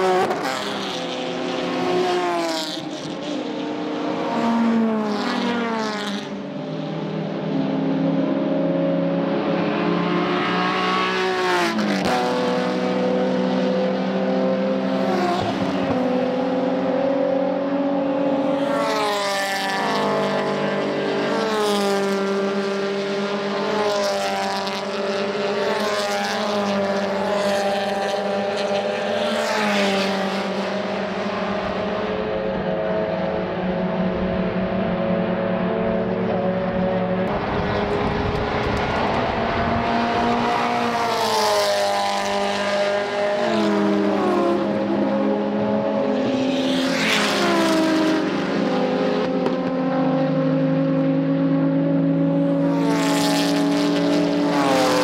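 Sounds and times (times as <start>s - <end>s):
race cars passing at speed: 0.0s - 55.0s.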